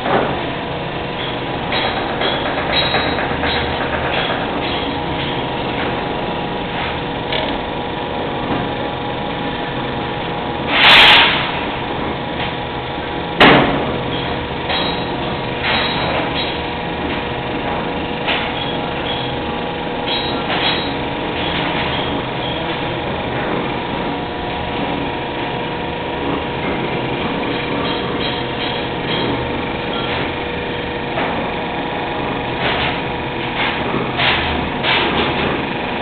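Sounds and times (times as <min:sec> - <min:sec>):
machine motor hum: 0:00.0 - 0:36.0.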